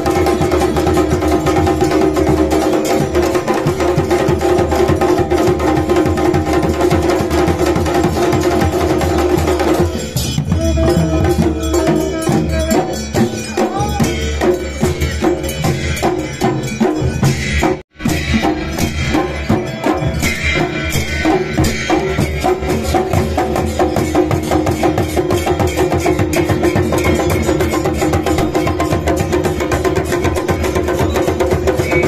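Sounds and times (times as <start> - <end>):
brass hand bell ringing: 0.0 - 32.0
drums beating fast rhythm: 0.0 - 32.0.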